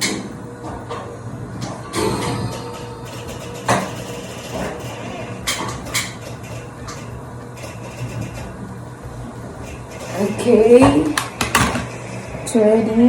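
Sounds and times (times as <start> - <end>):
low appliance hum: 0.0 - 13.0.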